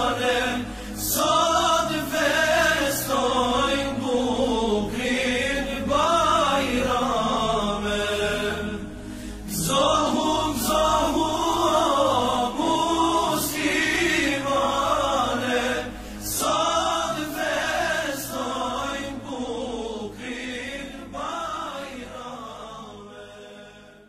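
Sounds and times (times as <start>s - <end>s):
voices singing a chant: 0.0s - 24.0s.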